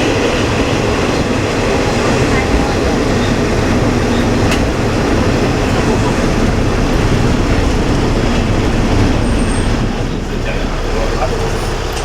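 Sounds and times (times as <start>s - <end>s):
diesel engine rumbling: 0.0s - 12.0s
train wheels on rails: 0.0s - 12.0s.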